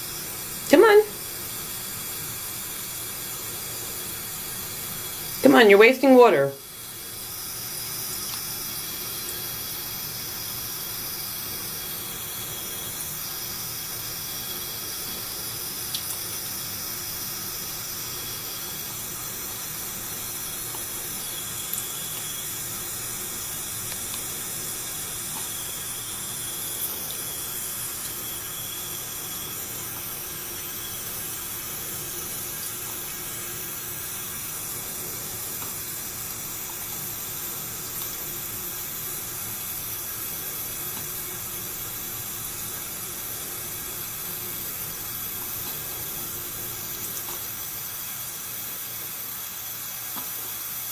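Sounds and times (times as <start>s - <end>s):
faucet water running: 0.0s - 50.9s.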